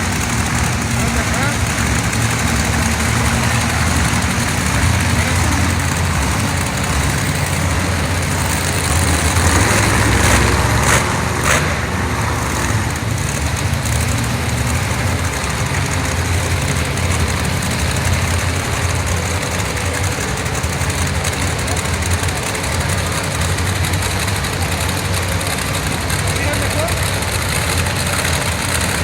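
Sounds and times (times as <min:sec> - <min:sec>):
truck engine idling: 0:00.0 - 0:29.0.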